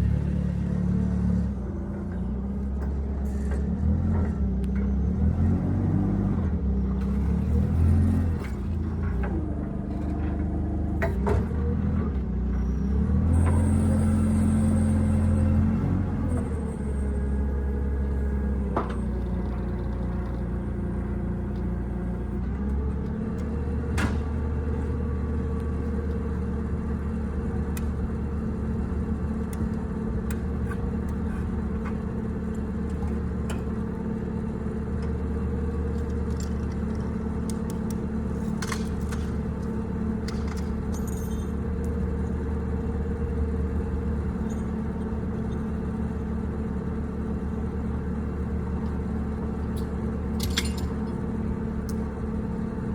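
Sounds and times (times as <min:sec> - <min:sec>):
engine idling: 0:06.5 - 0:52.9.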